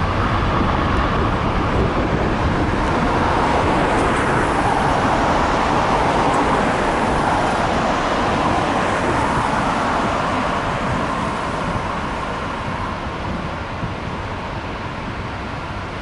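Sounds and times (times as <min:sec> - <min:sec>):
jet takeoff roar: 0:00.0 - 0:16.0
road traffic passing: 0:00.0 - 0:16.0.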